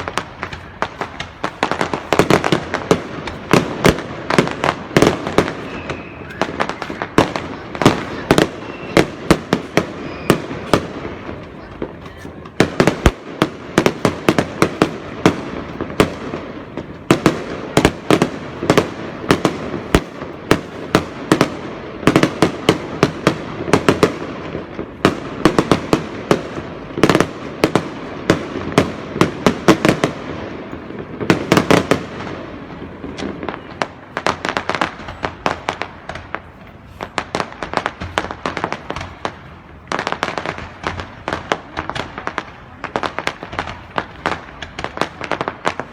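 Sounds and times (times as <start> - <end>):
fireworks bangs: 0.0 - 45.9.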